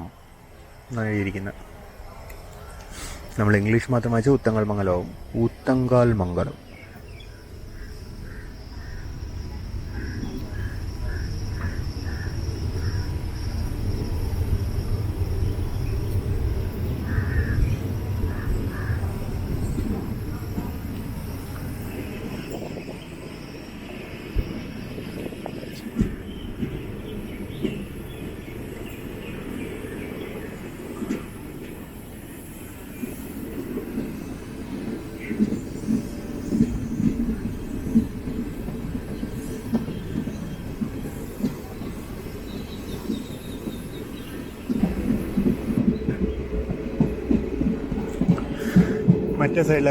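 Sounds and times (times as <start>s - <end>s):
diesel train rumble: 0.0s - 49.9s.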